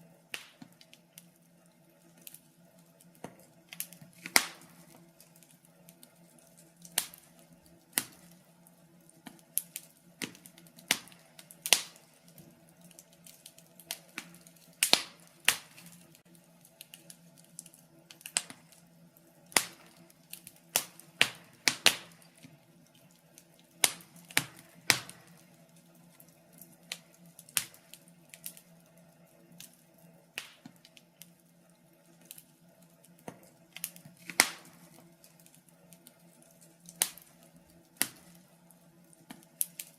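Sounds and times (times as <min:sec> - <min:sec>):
logs crackling in fireplace: 0:00.0 - 0:39.9
low steady hum: 0:00.0 - 0:39.9.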